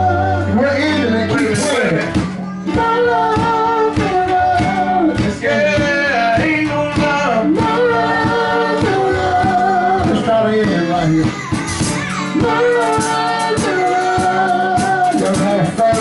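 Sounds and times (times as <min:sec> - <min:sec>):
gospel group singing: 0:00.0 - 0:01.4, 0:02.5 - 0:16.0
electric band playing: 0:00.0 - 0:16.0
steady drum beat: 0:00.8 - 0:16.0.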